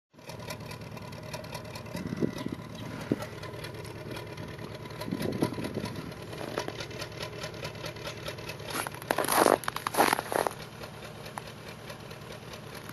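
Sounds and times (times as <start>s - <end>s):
car engine idling rough: 0.2s - 12.9s.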